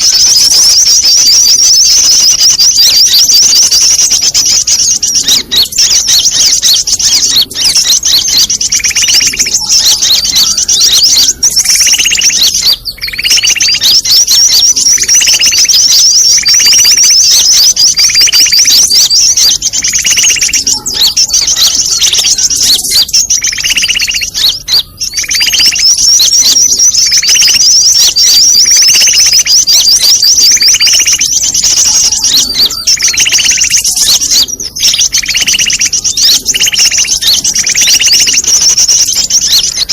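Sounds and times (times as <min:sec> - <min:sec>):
lower bird call: 0:00.0 - 0:39.9
small birds twittering: 0:00.0 - 0:39.9.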